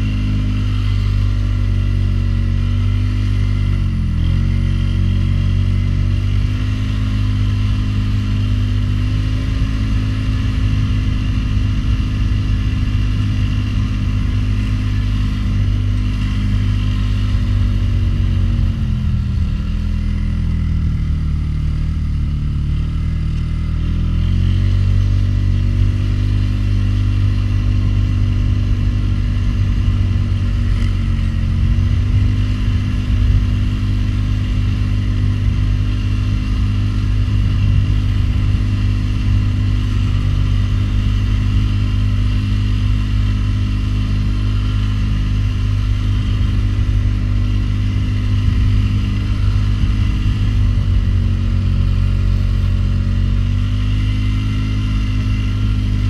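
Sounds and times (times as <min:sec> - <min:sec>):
atv engine running under load: 0:00.0 - 0:56.0.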